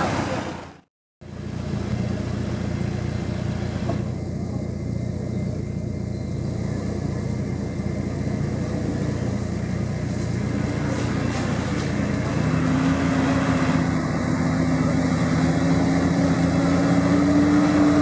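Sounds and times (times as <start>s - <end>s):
vehicle engine running: 1.2s - 18.0s.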